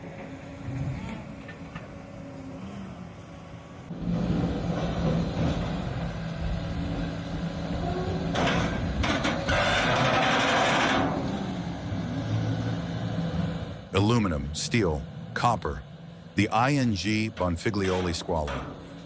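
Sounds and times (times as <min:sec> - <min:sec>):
heavy machinery engine hum: 0:00.0 - 0:19.0.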